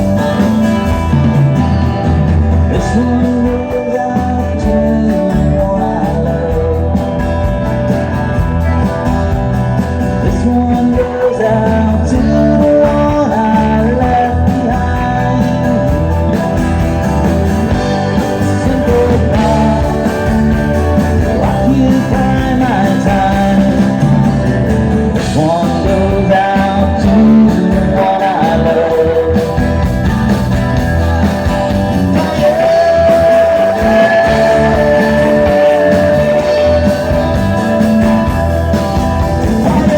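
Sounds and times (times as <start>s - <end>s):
person singing: 0.0s - 7.5s, 10.2s - 16.6s, 17.6s - 24.5s, 25.2s - 39.9s
rock band playing live: 0.0s - 39.9s.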